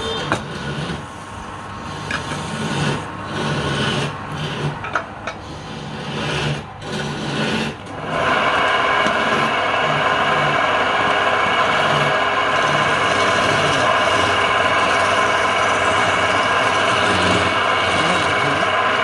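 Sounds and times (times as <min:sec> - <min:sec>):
wood lathe motor whining: 0:00.0 - 0:19.0.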